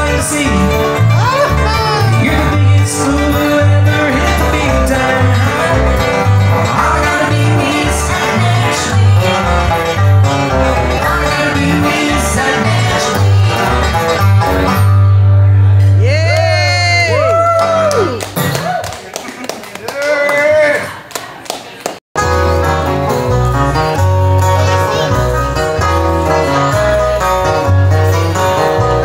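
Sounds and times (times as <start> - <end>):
live band playing: 0.0 - 18.8, 22.2 - 29.0
rhythmic bass line: 0.0 - 18.8, 22.2 - 29.0.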